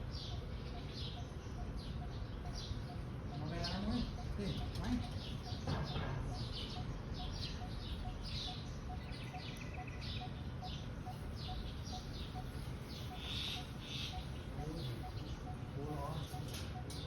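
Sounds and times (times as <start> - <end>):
buzzy bird trill: 0.0 - 17.0
small birds chirping: 0.0 - 17.0.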